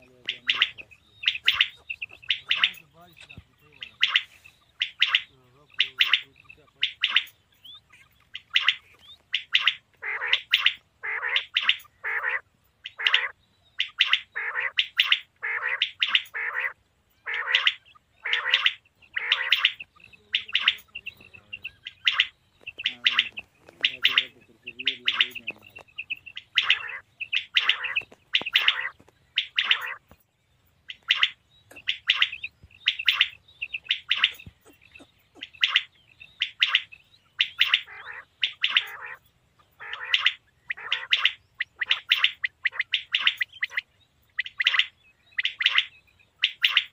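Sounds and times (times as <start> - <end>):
quail calling: 0.0 - 46.9.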